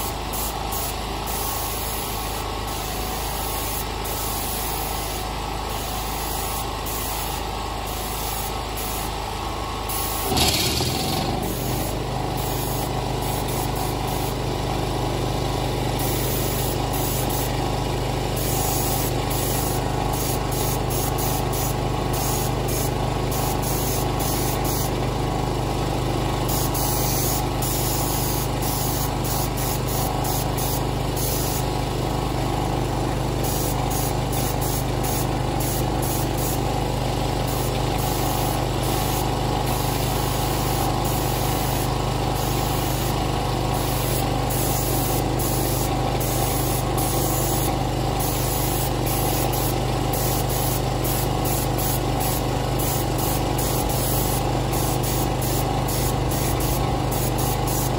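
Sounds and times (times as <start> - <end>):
paint spray gun hissing: 0.0 - 57.9
petrol generator running: 0.0 - 57.9.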